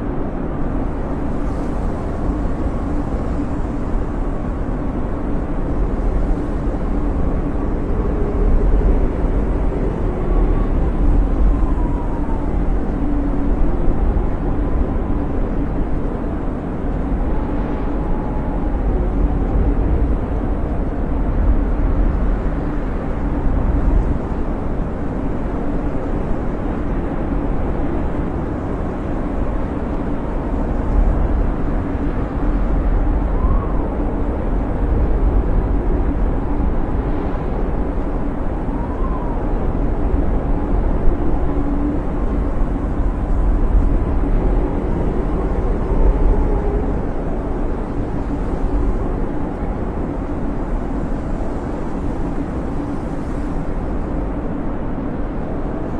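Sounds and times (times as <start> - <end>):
blizzard wind rushing: 0.0 - 55.9
whistling howl of wind: 0.0 - 55.9.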